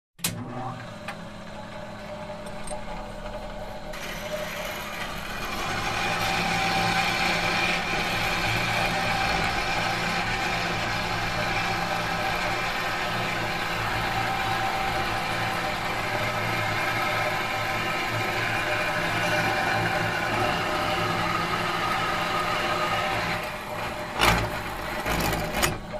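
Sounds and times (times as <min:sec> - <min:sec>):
industrial machine humming: 0:00.2 - 0:25.9.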